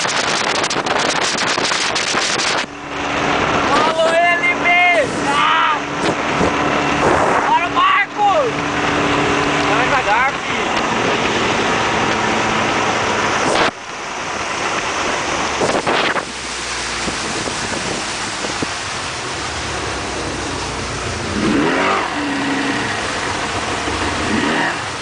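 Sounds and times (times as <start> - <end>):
outboard motor running: 0.0 - 25.0
rush of wind and water: 0.0 - 25.0.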